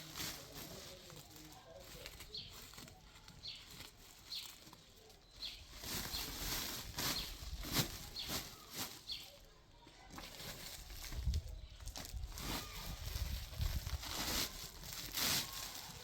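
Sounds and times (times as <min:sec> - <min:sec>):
rustling noise: 0:00.0 - 0:16.0.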